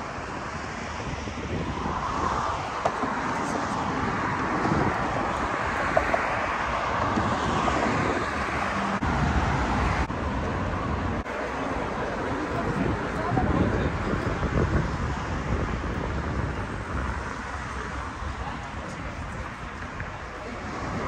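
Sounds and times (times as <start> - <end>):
road traffic passing cars: 0.0 - 21.0.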